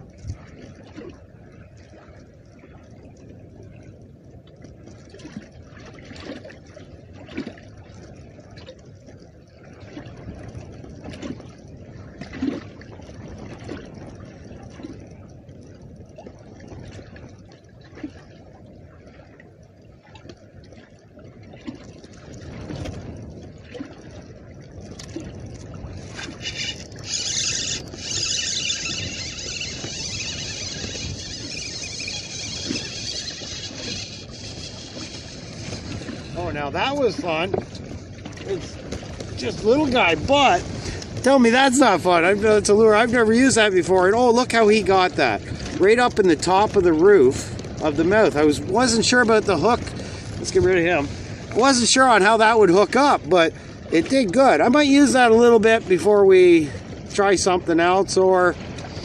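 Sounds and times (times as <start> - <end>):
water lapping against boat hull: 0.0 - 59.0.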